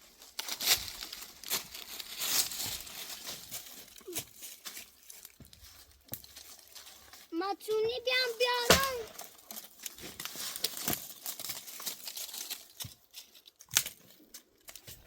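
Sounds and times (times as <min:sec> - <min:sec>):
crinkling handling noises: 0:00.0 - 0:15.0.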